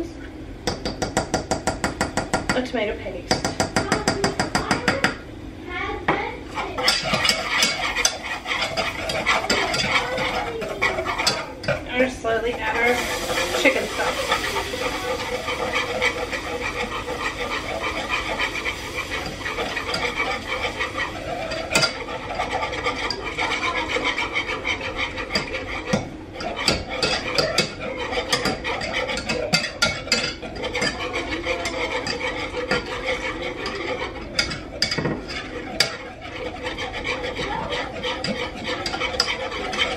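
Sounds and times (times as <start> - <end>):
whisk scraping metal saucepan: 0.6 - 39.9
whisk wires clicking on pan: 6.8 - 39.9.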